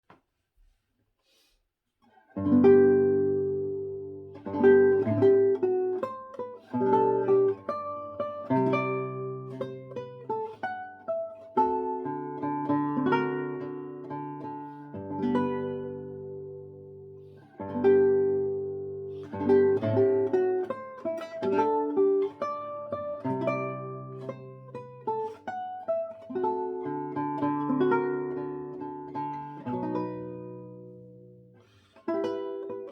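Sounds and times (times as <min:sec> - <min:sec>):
fingerstyle classical guitar: 0:02.1 - 0:32.9.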